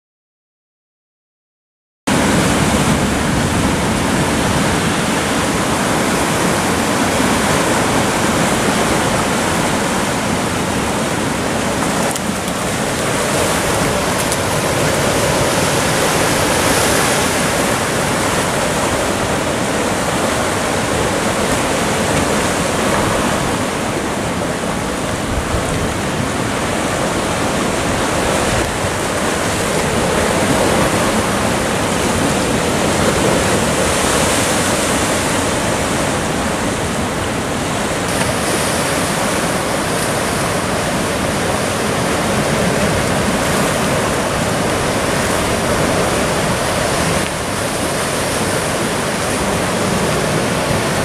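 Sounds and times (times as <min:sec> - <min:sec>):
sea surf breaking on rocks: 0:02.1 - 0:51.0.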